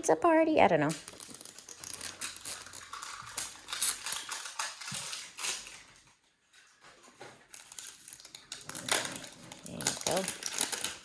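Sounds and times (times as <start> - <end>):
plastic packaging clicks and crinkles: 0.9 - 11.0.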